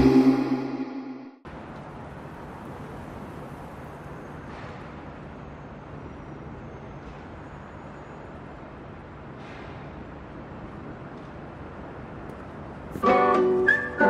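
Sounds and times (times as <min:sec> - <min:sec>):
distant traffic hum: 0:01.5 - 0:14.0.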